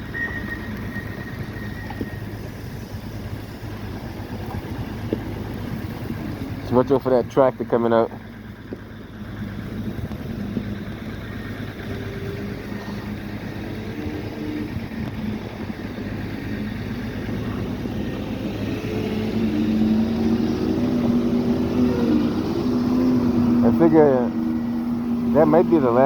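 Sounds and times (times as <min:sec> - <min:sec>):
tractor loader engine running: 0:00.0 - 0:26.0.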